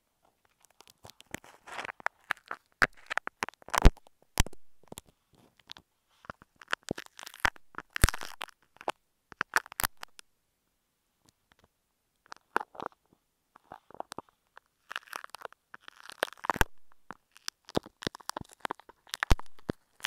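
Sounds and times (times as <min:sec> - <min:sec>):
crackling and clicking on microphone: 0:00.2 - 0:10.3, 0:11.2 - 0:20.0.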